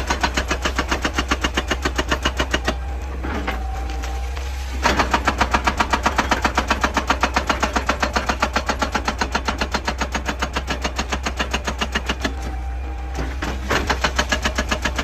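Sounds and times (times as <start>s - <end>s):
excavator engine running: 0.0s - 15.0s
hydraulic breaker hammer pounding rock: 0.0s - 15.0s.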